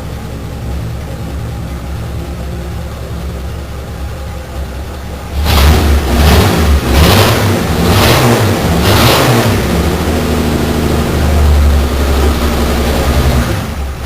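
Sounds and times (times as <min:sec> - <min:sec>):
engine idling and revving: 0:00.0 - 0:14.0.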